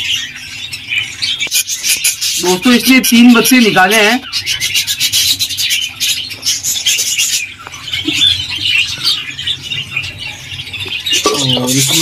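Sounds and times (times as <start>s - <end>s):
budgerigars chirping and squawking: 0.0s - 12.0s.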